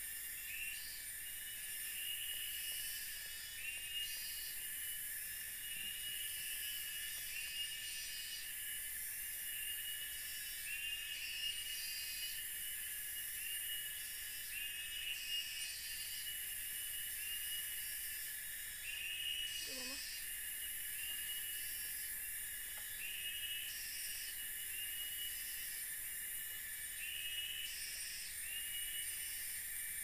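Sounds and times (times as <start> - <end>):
insect chirping: 0.0 - 30.0
high-pitched insect buzz: 0.1 - 30.0.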